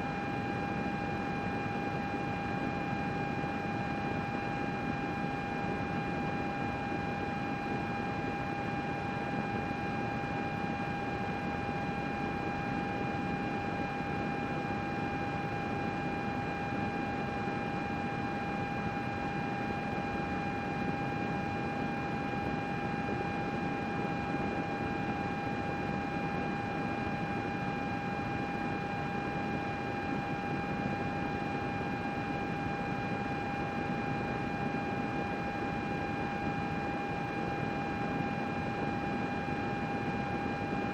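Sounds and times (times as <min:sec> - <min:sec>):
computer fan whir: 0:00.0 - 0:40.9.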